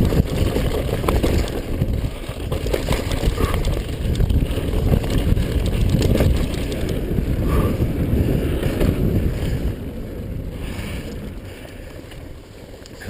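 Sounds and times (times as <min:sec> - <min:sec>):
bike frame and chain rattling: 0:00.0 - 0:13.0
bike tyres rolling over dirt: 0:00.0 - 0:13.0
wind rumble on microphone: 0:00.0 - 0:13.0.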